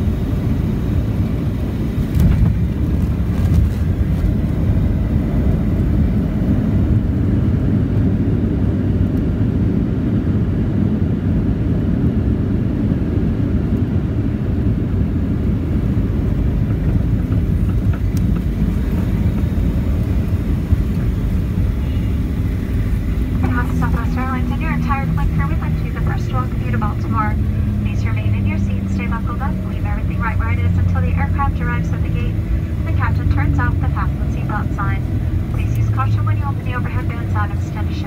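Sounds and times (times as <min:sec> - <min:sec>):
airplane cabin low rumble: 0:00.0 - 0:38.0.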